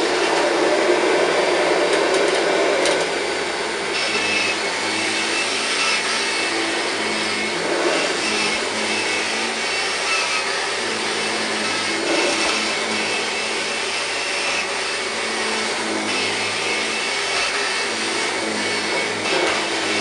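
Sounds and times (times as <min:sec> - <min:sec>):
upright vacuum cleaner running: 0:00.0 - 0:20.0.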